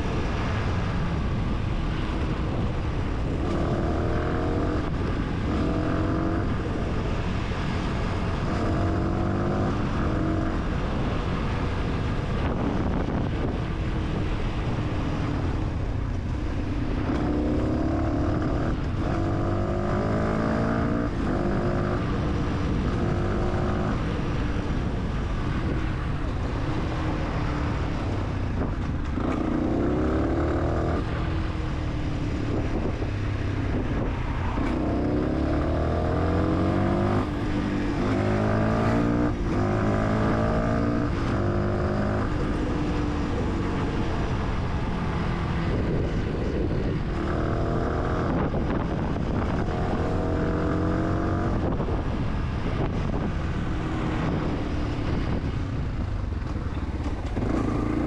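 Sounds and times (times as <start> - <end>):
motorcycle engine shifting gears: 0.0 - 58.0
road rumble: 0.0 - 58.0
wind: 0.0 - 58.0.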